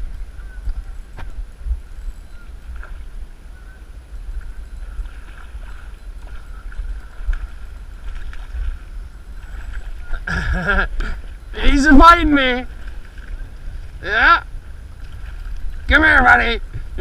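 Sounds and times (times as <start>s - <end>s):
faint steady whine: 0.0s - 17.0s
wind buffeting microphone: 0.0s - 17.0s.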